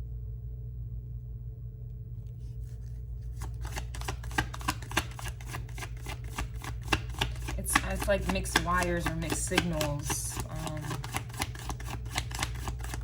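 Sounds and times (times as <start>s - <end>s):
low hum: 0.0s - 13.0s
cards being shuffled: 2.3s - 13.0s.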